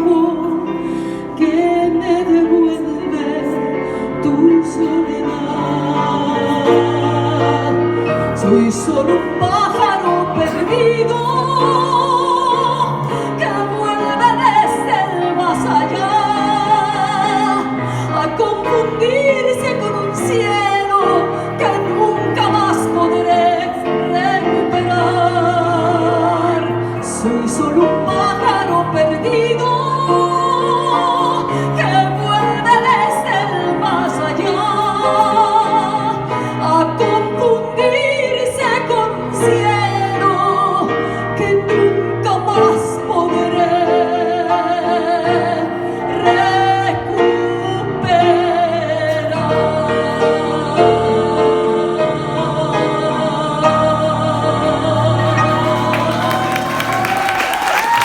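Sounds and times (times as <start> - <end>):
woman singing operatically: 0.0 - 58.0.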